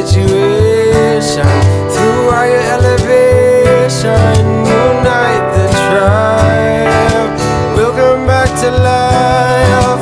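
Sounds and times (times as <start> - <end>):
song with guitar: 0.0 - 10.0.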